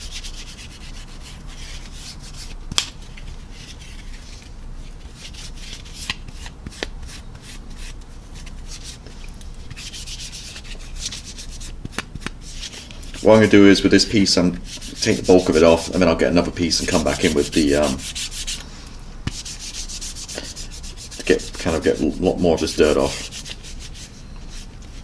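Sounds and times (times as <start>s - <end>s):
paper towel rubbing plastic: 0.0s - 18.6s, 19.3s - 25.0s.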